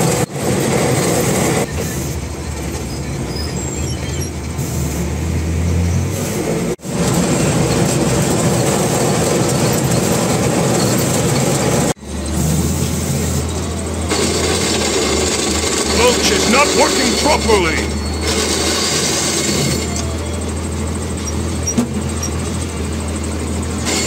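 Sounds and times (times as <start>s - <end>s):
truck engine droning with rattles: 0.0s - 24.0s.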